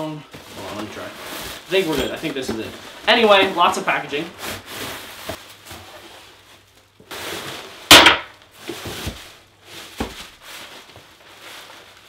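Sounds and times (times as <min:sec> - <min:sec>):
cardboard and packing rustling: 0:00.1 - 0:12.0.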